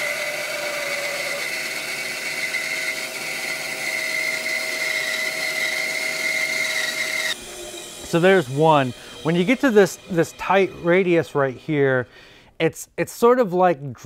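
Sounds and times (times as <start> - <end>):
bandsaw cutting wood: 0.0 - 12.2
bandsaw whine: 0.0 - 12.4.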